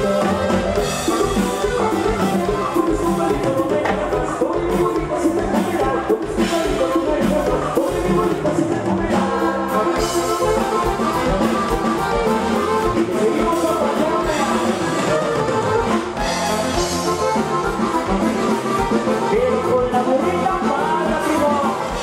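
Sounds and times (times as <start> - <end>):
saxophone: 0.0 - 5.0, 7.6 - 22.0
band playing dance music: 0.0 - 22.0
drum kit: 0.0 - 22.0
keyboard: 0.0 - 22.0
person singing: 0.0 - 22.0.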